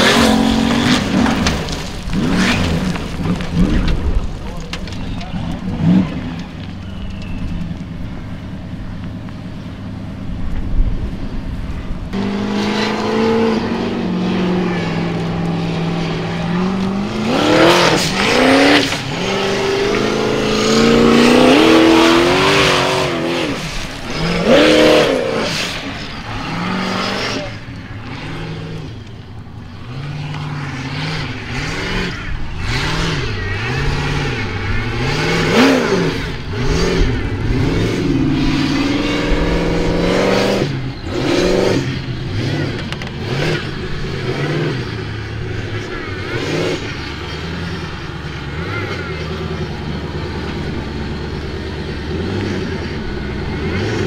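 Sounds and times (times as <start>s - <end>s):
engine revving hard: 0.0s - 4.0s, 12.1s - 28.9s, 29.8s - 54.0s.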